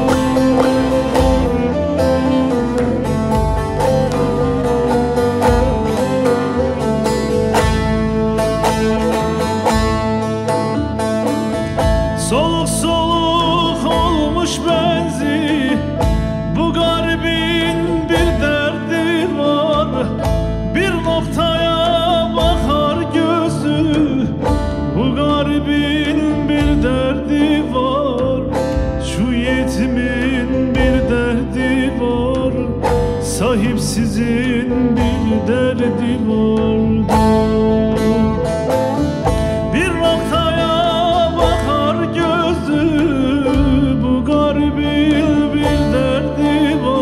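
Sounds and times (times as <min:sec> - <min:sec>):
man singing long notes: 0:00.0 - 0:10.0, 0:12.2 - 0:47.0
deep drum beat: 0:00.0 - 0:47.0
plucked lute folk music: 0:00.0 - 0:47.0.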